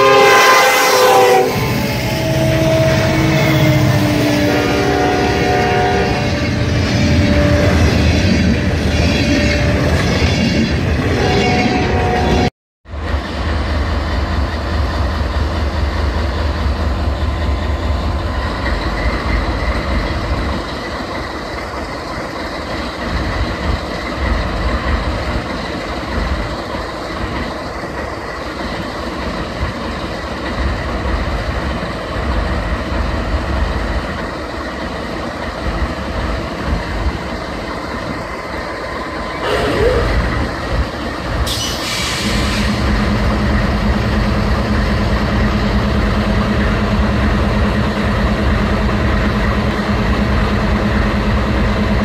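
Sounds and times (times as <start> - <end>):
diesel locomotive engine rumble: 0.0 - 52.0.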